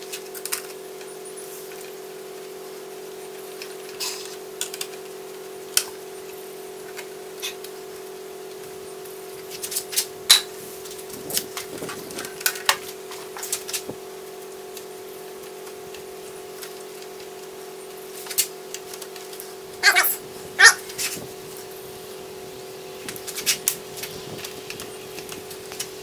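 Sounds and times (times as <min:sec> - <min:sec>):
background hum: 0:00.0 - 0:26.0.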